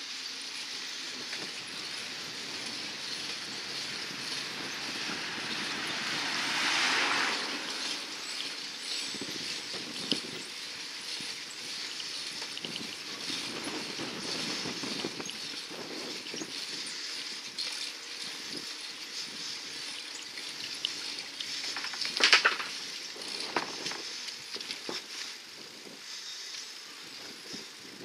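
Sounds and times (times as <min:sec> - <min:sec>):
bicycle rattling and clicking: 0:00.0 - 0:28.0
bicycle tyres hissing on paving: 0:00.0 - 0:28.0.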